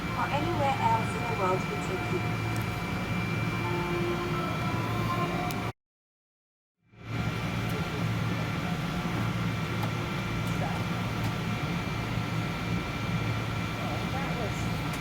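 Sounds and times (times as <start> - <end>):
airliner cabin hum: 0.0 - 5.7, 7.0 - 15.0
faint steady whines: 0.0 - 5.7, 6.9 - 15.0.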